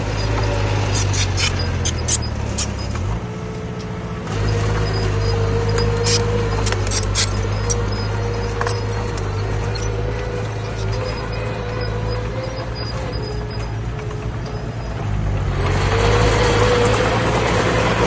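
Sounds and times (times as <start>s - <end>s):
high-pitched clicks and squeaks: 0.0s - 17.4s
heavy diesel engine running: 0.0s - 18.0s.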